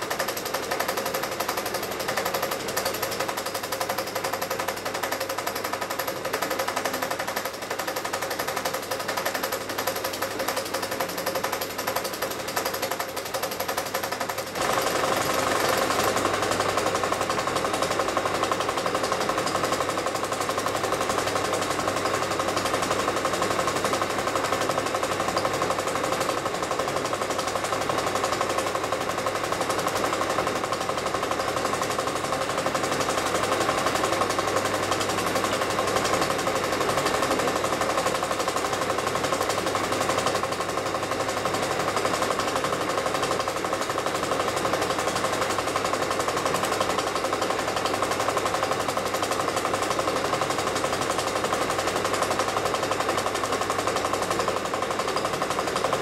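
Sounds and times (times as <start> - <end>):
film projector clattering: 0.0 - 56.0.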